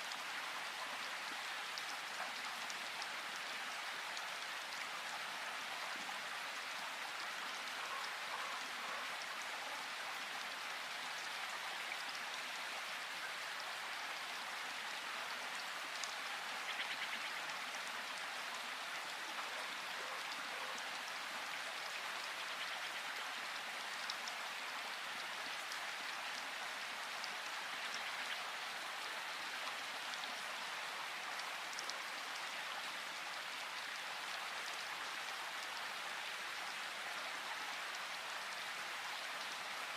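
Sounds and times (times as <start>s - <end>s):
rain pattering in forest: 0.0s - 39.9s.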